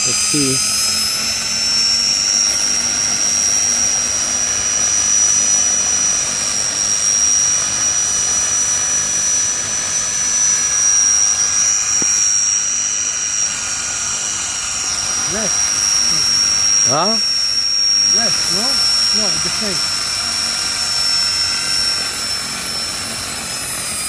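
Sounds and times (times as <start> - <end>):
electric motor whine: 0.0 - 24.0
spinning rotor rush: 0.0 - 24.0.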